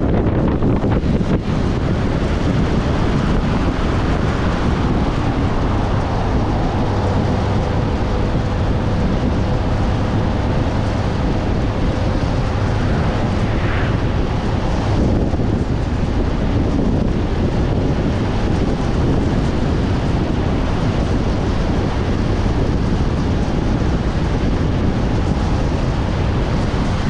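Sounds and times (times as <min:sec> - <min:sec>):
car engine and road noise: 0:00.0 - 0:27.0
low hum: 0:00.0 - 0:27.0
wind buffeting microphone: 0:00.0 - 0:27.0.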